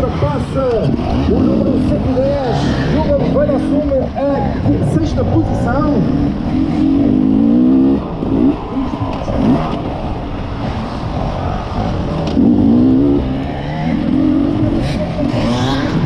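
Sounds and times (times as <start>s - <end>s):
motorcycle engine revving: 0.0s - 16.0s
rough rumble of ride: 0.0s - 16.0s.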